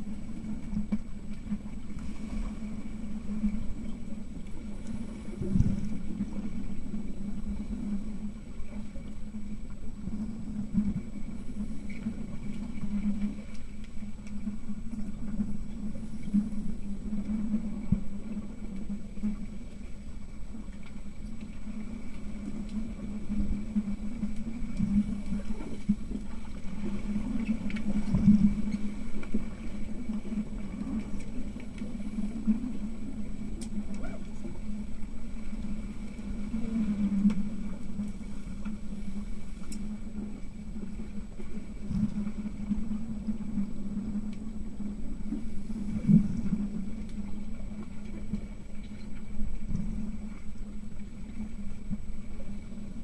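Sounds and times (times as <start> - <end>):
muffled underwater hum: 0.0 - 53.0
water and bubbles: 0.0 - 53.0.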